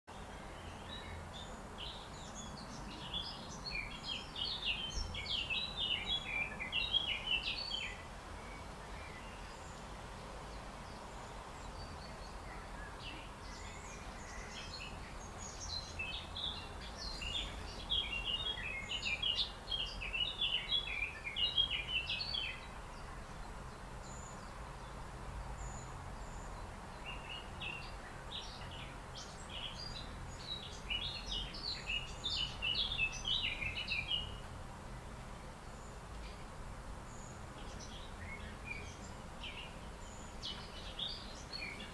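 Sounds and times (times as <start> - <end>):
songbirds chirping and twittering: 0.1 - 41.9.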